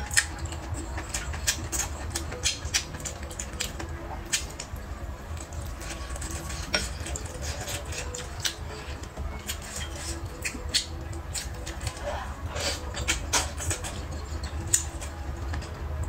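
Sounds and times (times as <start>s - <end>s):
chewing: 0.0s - 16.0s
steady low hum: 0.0s - 16.0s.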